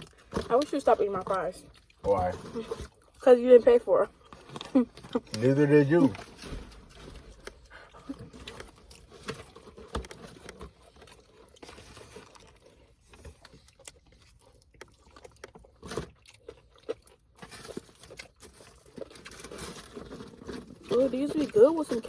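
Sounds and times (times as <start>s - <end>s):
people chewing food: 0.0s - 22.0s
small crunches and taps: 4.2s - 22.0s.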